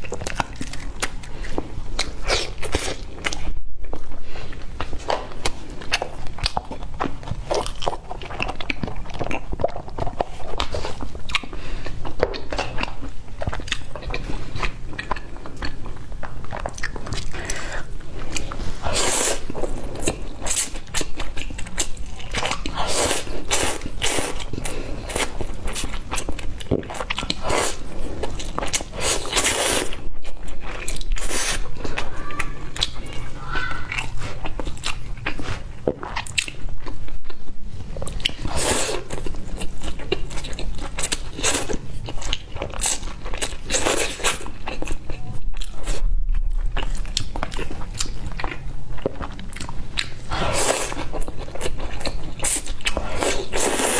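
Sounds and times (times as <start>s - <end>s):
chewing: 0.0s - 53.9s.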